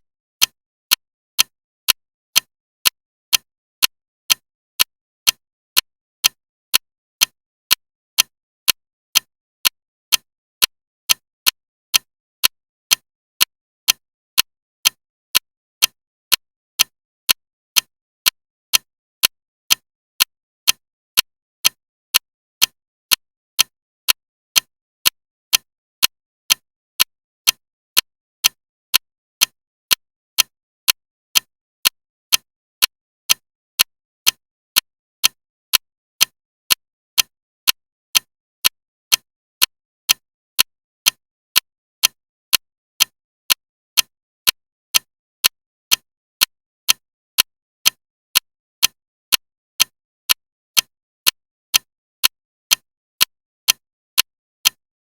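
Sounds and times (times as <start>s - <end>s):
clock ticking: 0.4s - 54.8s.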